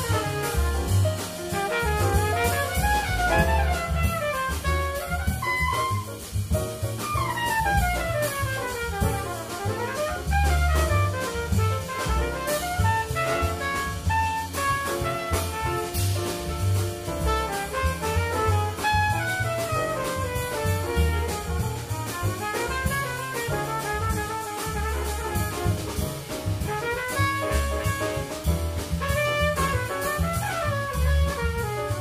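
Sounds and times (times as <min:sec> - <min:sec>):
trumpet lead: 0:00.0 - 0:06.2, 0:07.2 - 0:16.4, 0:17.2 - 0:32.0
drum kit: 0:00.0 - 0:32.0
piano: 0:00.0 - 0:32.0
upright bass: 0:00.0 - 0:32.0.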